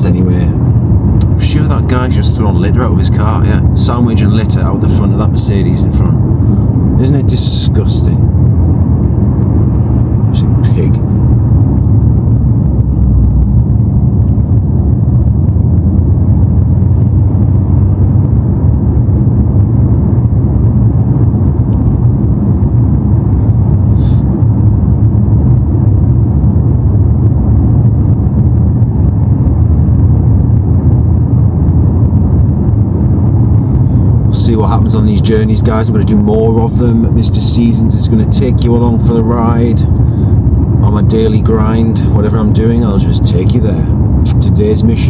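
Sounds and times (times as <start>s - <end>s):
car cabin engine and road rumble: 0.0s - 45.0s.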